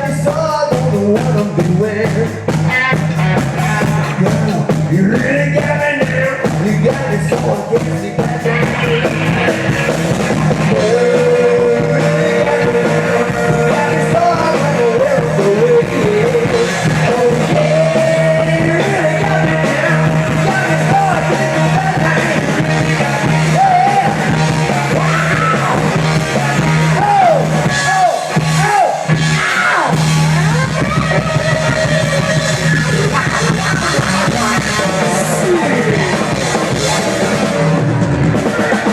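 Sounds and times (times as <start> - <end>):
live rock band playing: 0.0 - 38.9
person singing: 3.5 - 9.7, 10.5 - 37.5.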